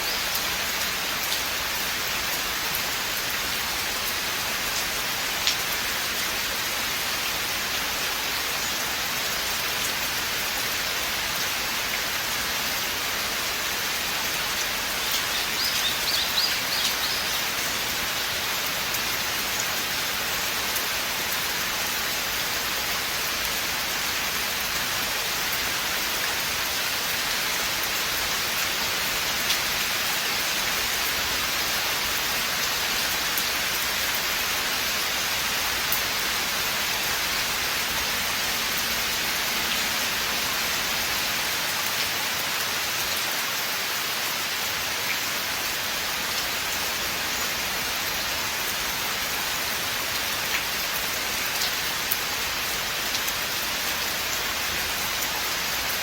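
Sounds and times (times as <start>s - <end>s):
steady rain in forest: 0.0s - 56.0s.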